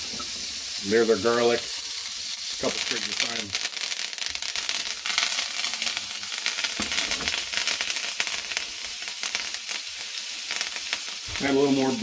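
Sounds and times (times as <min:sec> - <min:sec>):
steak sizzling in frying pan: 0:00.0 - 0:12.0.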